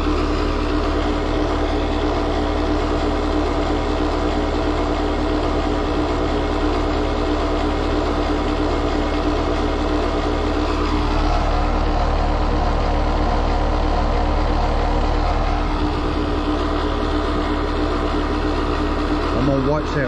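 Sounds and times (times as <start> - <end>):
compressor harsh rattling: 0.0 - 20.0
steady unit hum: 0.0 - 20.0.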